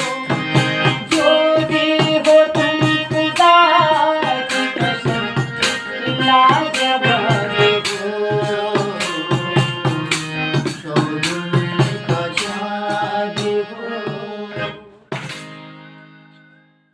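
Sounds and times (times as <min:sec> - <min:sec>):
held melody notes: 0:00.0 - 0:16.9.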